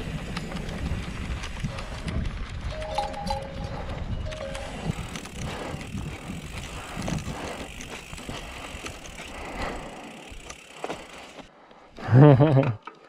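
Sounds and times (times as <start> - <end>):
bike rattling over bumps: 0.0 - 11.5
bike tyre rumble: 0.0 - 12.5.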